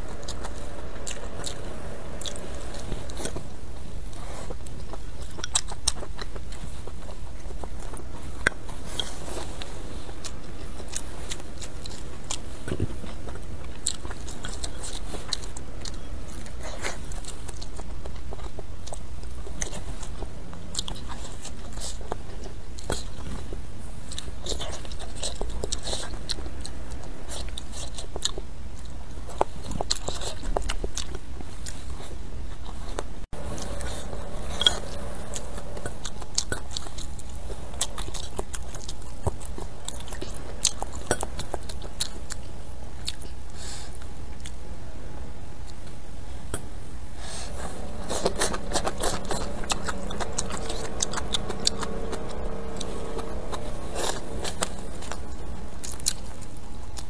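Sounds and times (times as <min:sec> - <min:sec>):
low hum: 0:00.0 - 0:57.0
person chewing food: 0:00.0 - 0:57.0.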